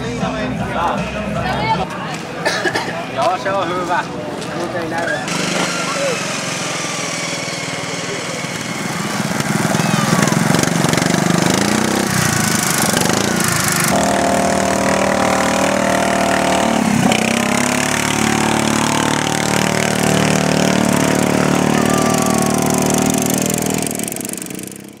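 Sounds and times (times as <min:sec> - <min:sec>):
ride-on lawn mower engines revving: 0:04.7 - 0:25.0.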